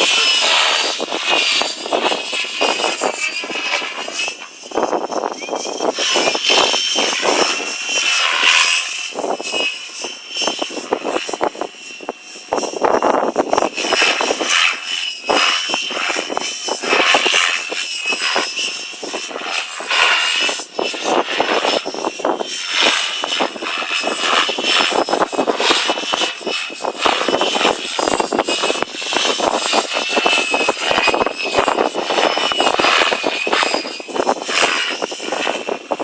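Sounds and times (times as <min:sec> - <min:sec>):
rc helicopter whine: 0:00.0 - 0:36.0.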